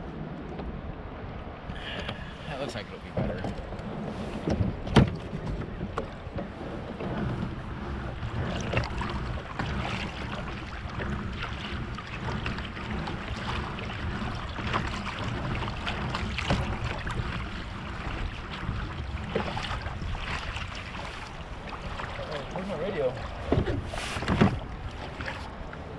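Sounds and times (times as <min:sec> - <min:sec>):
water splashing against kayak hull: 0:00.0 - 0:25.9.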